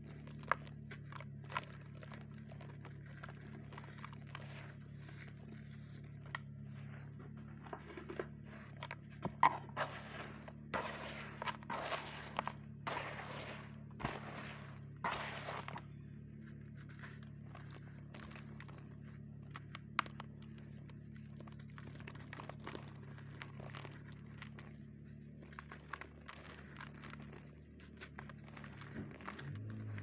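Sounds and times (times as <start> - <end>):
cement crumbling with crunches: 0.0 - 30.0
steady low hum: 0.0 - 30.0.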